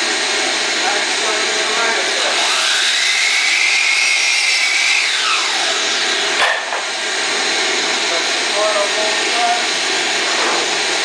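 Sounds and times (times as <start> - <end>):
miter saw motor whining: 0.0 - 11.0.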